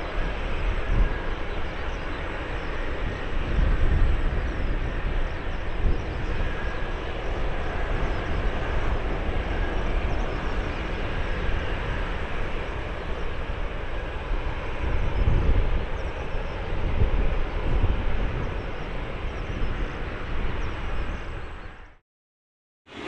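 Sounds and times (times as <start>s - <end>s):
distant jet engines rushing: 0.0s - 22.0s.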